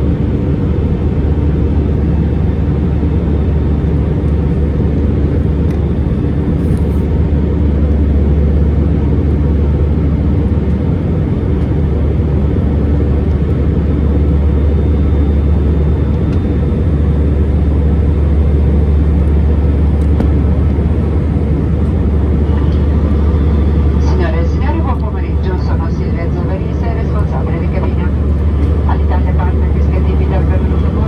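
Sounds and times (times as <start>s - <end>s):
airliner cabin engine drone: 0.0s - 31.0s.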